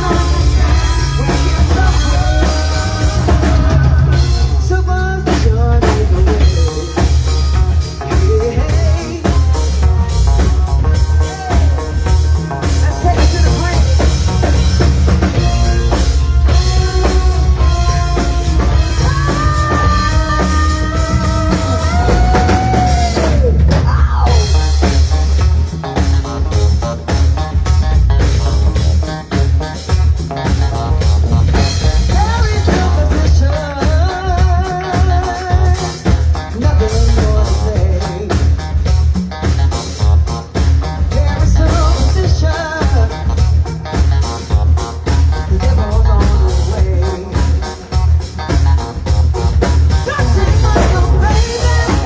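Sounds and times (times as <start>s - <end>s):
drum kit beat: 0.0s - 52.0s
rock band playing: 0.0s - 52.0s.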